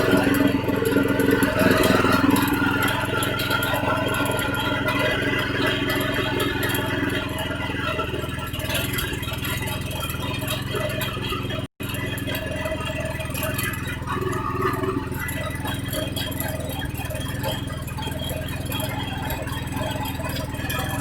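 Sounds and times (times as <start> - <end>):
small petrol engine running: 0.0 - 21.0.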